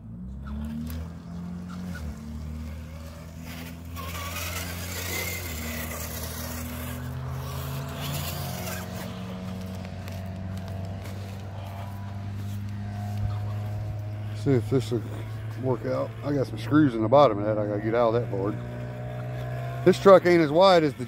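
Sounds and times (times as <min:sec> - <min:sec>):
electric motor and gears whining: 0:00.0 - 0:21.0.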